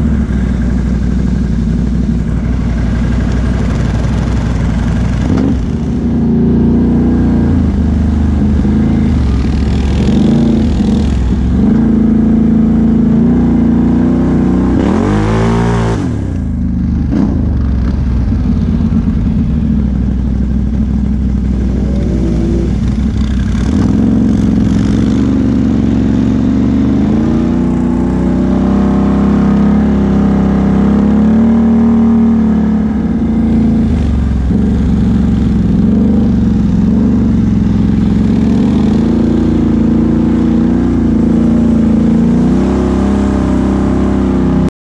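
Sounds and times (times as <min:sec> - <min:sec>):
atv engine revving: 0:00.0 - 0:44.7.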